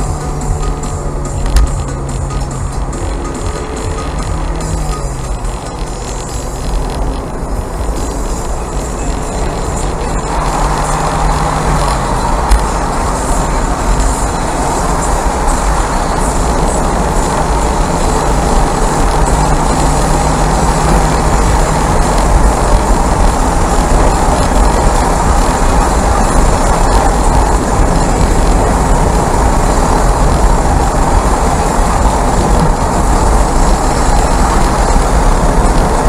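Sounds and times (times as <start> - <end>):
car engine and tyre noise: 0.0 - 36.0
heavy low rumble: 0.0 - 36.0.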